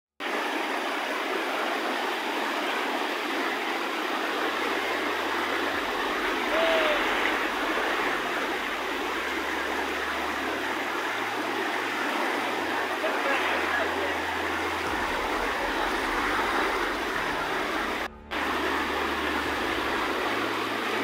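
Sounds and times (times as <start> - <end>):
river rushing over rapids: 0.2 - 21.0.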